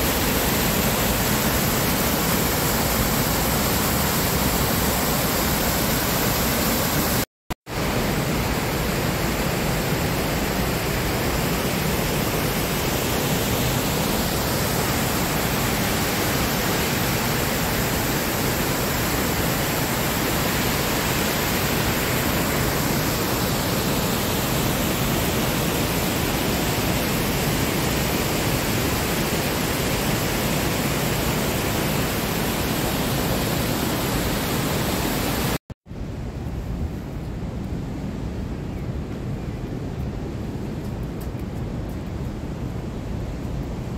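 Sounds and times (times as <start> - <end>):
white water pouring over rocks: 0.0 - 35.6.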